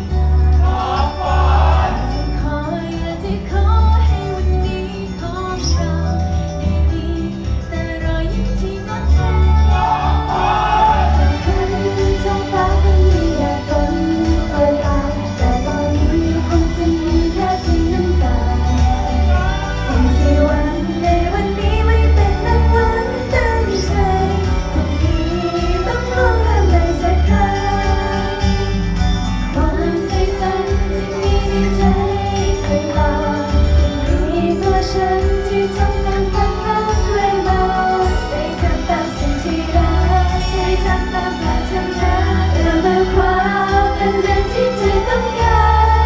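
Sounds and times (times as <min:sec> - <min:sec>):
backing track with steady beat: 0:00.0 - 0:46.0
women singing pop song: 0:00.0 - 0:46.0.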